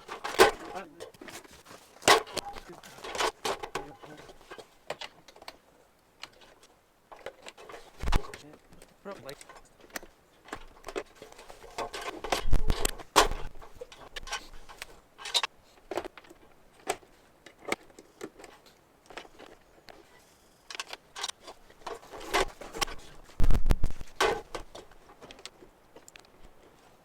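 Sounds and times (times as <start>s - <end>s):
clicks knocks and rattles: 0.0s - 5.6s, 6.2s - 20.1s, 20.7s - 26.8s.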